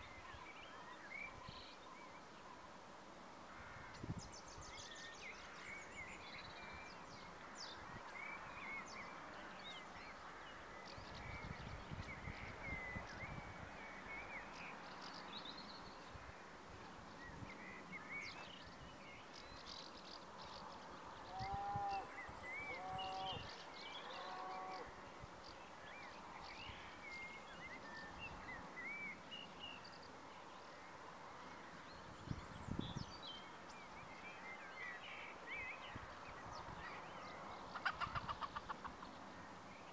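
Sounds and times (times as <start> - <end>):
background hiss: 0.0 - 39.9
small birds chirping: 3.6 - 39.9.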